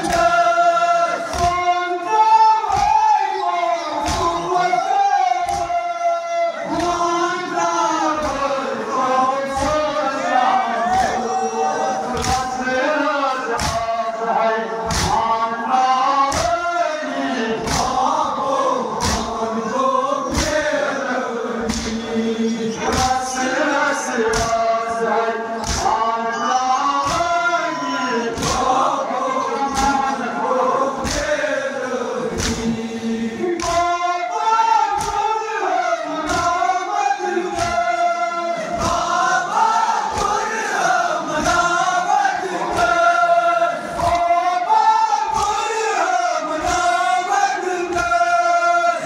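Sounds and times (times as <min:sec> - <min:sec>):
men chanting a lament: 0:00.0 - 0:49.0.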